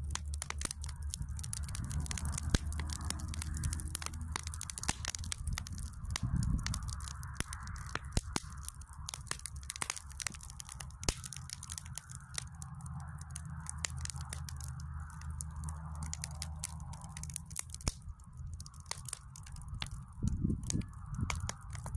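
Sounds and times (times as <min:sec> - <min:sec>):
wood fire crackling and popping: 0:00.0 - 0:21.9.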